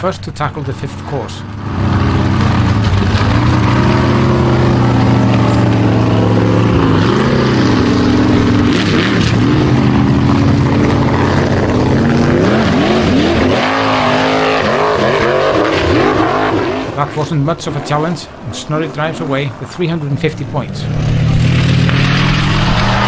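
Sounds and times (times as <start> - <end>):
buggy engine revving under load: 0.8 - 23.0.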